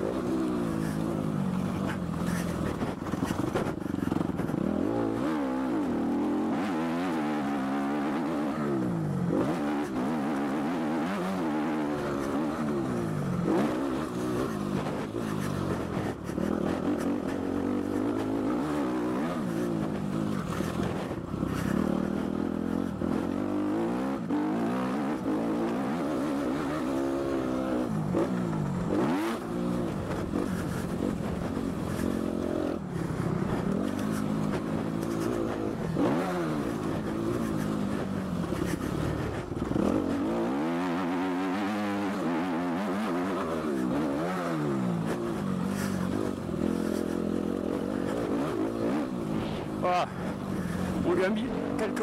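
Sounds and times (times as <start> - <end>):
motocross engine revving: 0.0 - 52.0.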